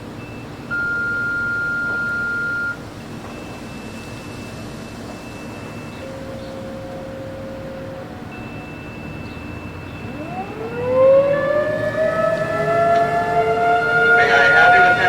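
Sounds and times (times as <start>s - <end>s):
distant sirens: 0.0s - 15.0s
warning siren wailing: 0.8s - 15.0s.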